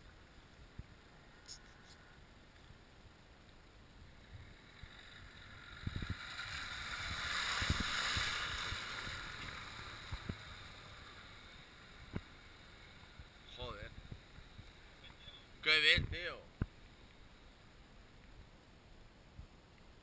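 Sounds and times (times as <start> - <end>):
vehicle engine: 0.0 - 17.8.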